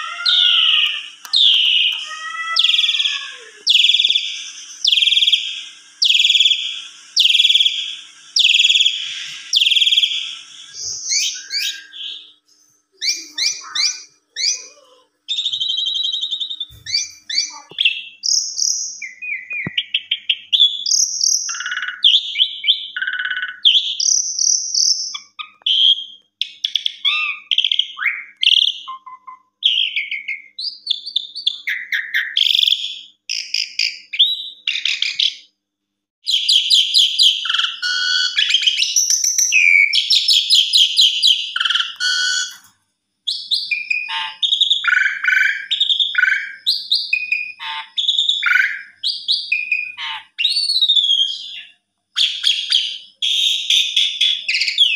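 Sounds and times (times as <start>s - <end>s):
starling singing: 0.0s - 35.4s, 36.3s - 42.7s, 43.3s - 54.9s.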